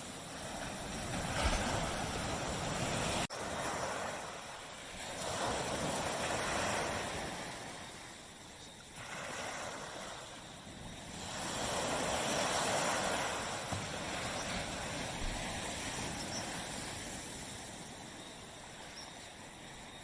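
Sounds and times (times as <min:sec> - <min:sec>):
surf washing up a beach: 0:00.0 - 0:20.0.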